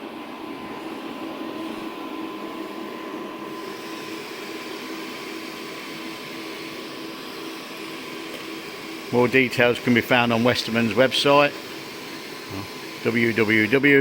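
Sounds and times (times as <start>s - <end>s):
welding machine hum and hiss: 0.0s - 14.0s.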